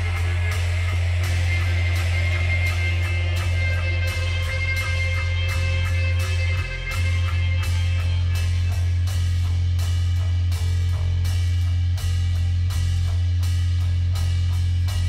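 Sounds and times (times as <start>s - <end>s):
distorted electric guitars: 0.0s - 12.3s
bass drone: 0.0s - 15.0s
drums and cymbals: 0.0s - 15.0s.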